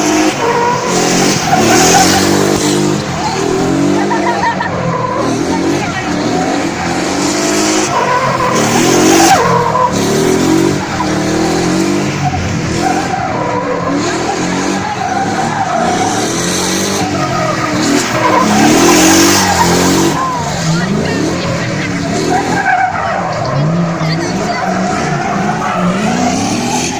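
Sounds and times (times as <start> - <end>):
car engine revving: 0.0 - 26.9
tyres skidding and squealing: 0.0 - 26.9.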